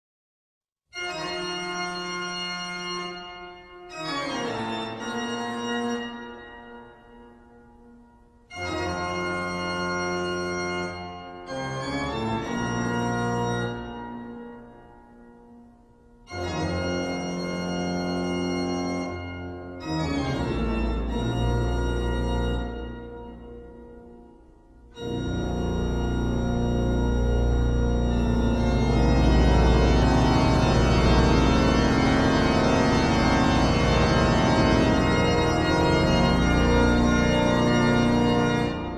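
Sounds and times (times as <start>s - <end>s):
organ chords: 1.0s - 15.6s, 16.2s - 38.9s.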